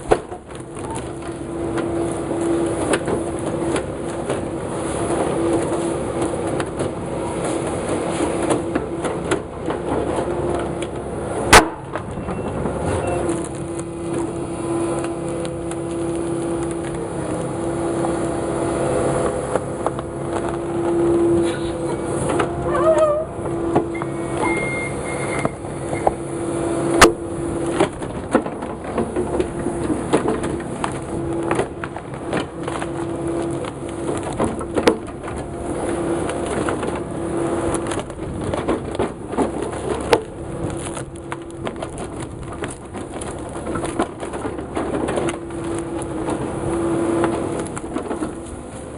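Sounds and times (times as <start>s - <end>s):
forestry machine engine running: 0.0s - 48.9s.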